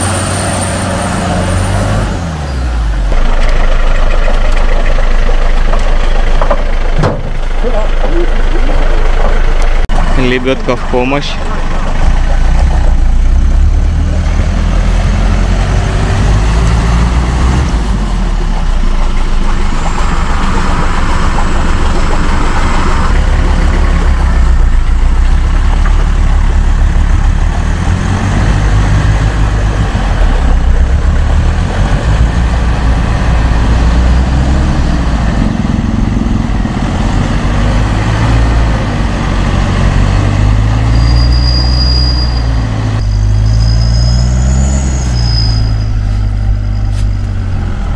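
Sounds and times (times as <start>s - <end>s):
off-road vehicle engine under load: 0.0s - 47.9s.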